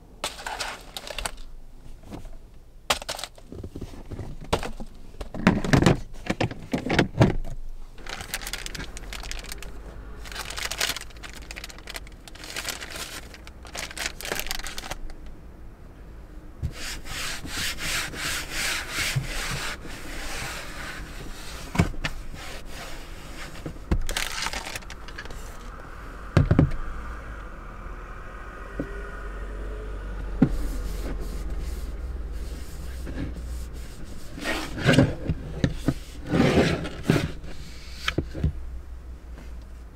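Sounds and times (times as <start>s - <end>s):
rubbing and scraping of objects: 0.2s - 15.2s, 16.6s - 25.8s, 30.4s - 38.6s.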